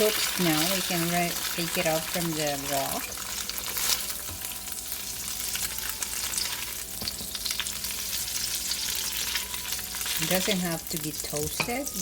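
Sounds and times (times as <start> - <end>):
tofu sizzling in hot oil: 0.0 - 12.0.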